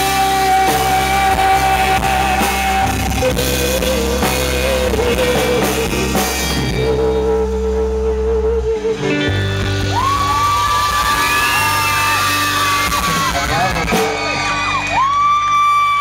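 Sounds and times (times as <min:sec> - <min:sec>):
bass: 0:00.0 - 0:16.0
live rock band playing: 0:00.0 - 0:16.0.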